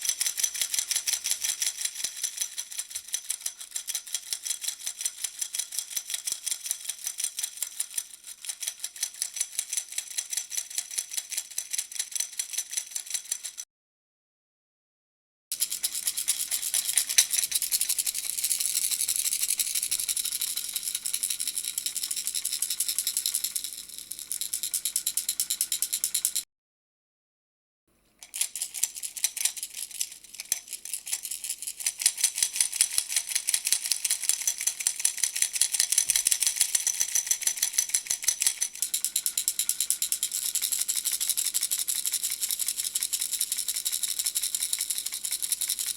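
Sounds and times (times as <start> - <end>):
baby rattle shaking: 0.0 - 13.6, 15.5 - 26.4, 28.2 - 45.9.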